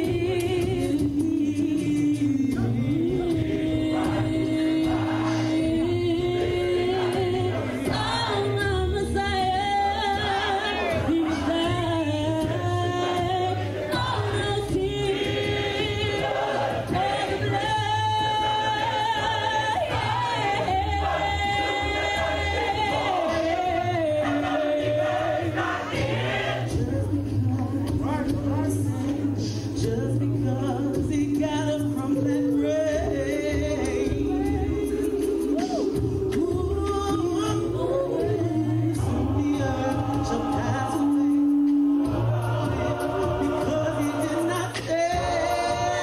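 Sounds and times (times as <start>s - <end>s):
lead singers on microphones: 0.0s - 46.0s
choir singing: 2.6s - 27.2s, 33.1s - 46.0s.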